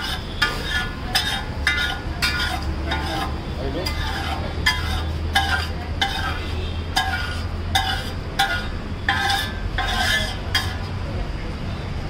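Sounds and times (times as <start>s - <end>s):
metal spatula scraping griddle: 0.0s - 10.9s.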